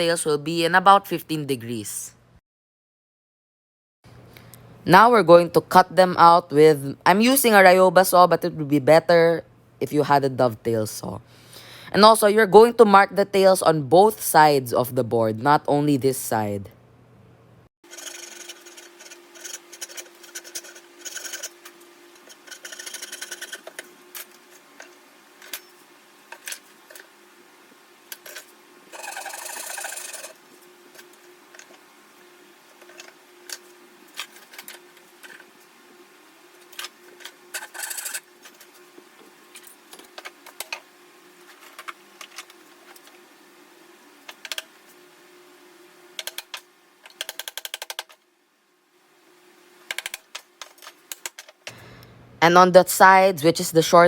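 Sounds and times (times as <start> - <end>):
faint steady hum: 4.1 - 54.0.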